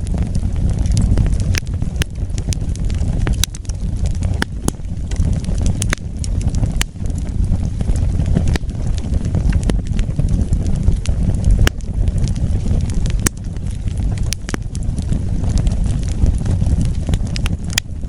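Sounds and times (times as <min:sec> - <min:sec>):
fire crackles and pops: 0:00.0 - 0:18.0
wood fire rumbling: 0:00.0 - 0:18.0.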